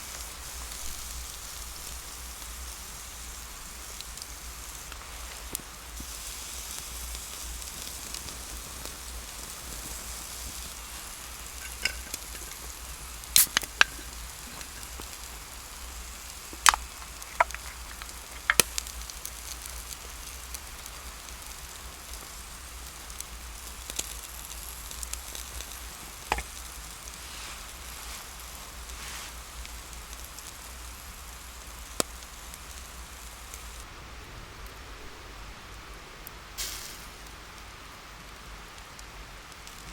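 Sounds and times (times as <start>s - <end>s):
food sizzling in a pan: 0.0s - 33.9s, 36.6s - 37.6s
sharp pops and crackles: 0.0s - 33.9s, 36.6s - 37.4s.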